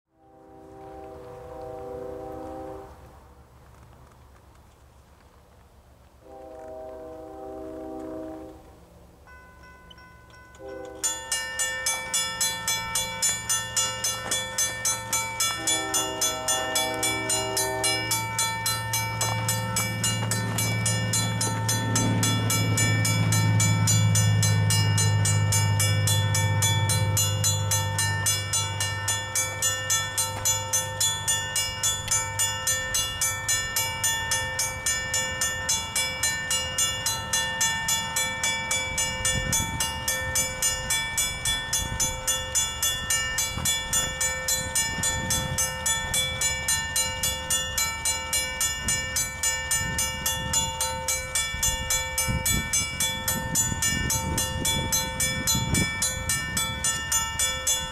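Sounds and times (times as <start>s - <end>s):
railroad crossing bell ringing: 9.2s - 57.9s.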